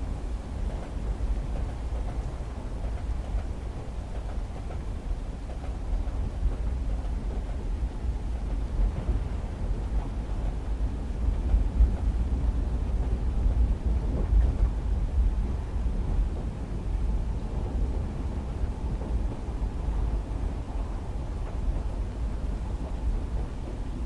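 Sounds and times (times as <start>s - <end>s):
rain on a window: 0.0s - 24.0s
train carriage rumbling: 0.0s - 24.0s.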